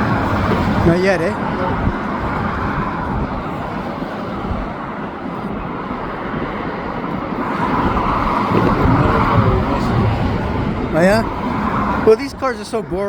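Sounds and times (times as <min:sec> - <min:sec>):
freight train rolling past: 0:00.0 - 0:13.0
highway traffic roar: 0:00.0 - 0:13.0.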